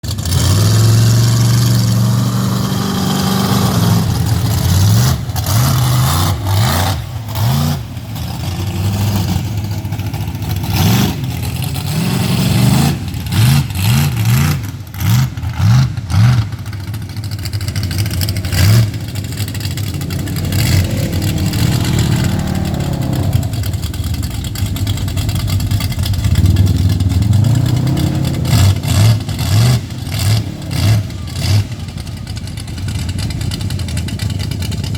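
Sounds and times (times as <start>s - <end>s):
truck engine revving: 0.0s - 34.9s.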